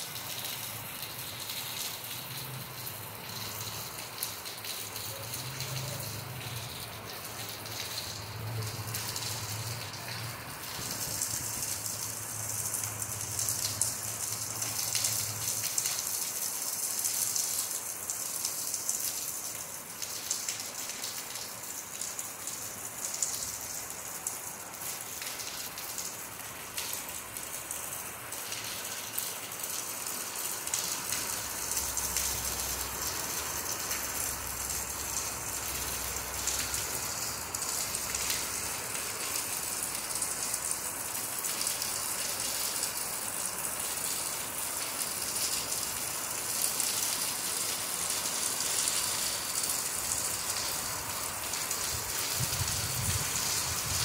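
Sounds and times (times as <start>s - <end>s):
rain on leaves and ground: 0.0s - 54.0s.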